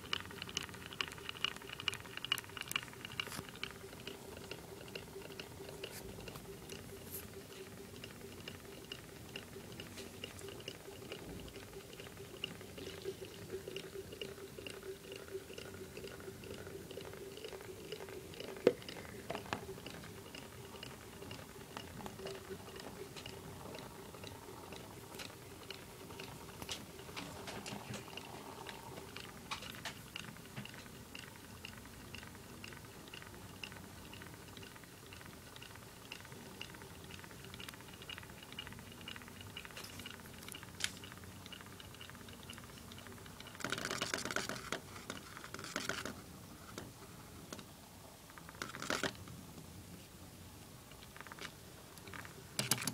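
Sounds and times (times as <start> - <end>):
water boiling and crackling: 0.0 - 50.0.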